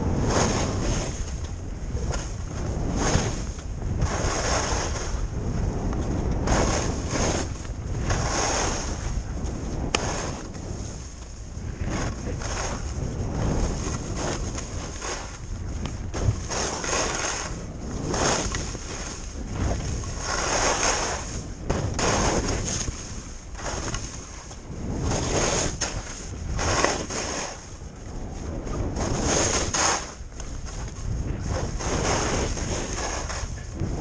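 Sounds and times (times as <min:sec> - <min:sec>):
skis scraping on snow: 0:00.0 - 0:34.0
wind on microphone: 0:00.0 - 0:34.0.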